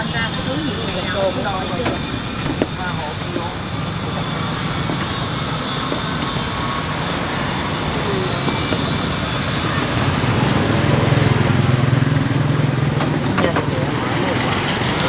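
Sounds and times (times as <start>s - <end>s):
road noise: 0.0s - 15.0s
traffic engine rumble: 0.0s - 15.0s.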